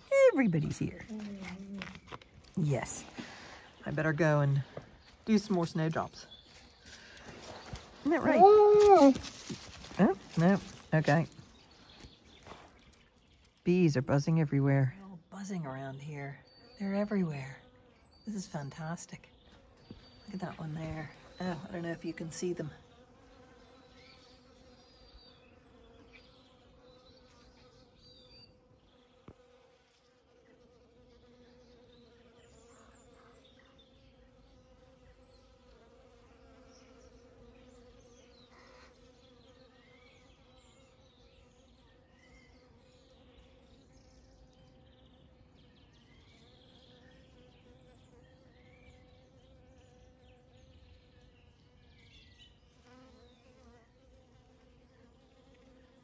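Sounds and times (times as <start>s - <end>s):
bees buzzing: 0.0s - 13.0s, 13.6s - 56.0s.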